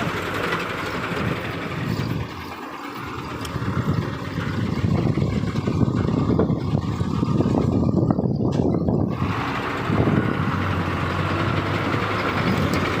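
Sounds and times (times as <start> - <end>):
truck engine pulsing: 0.0 - 13.0.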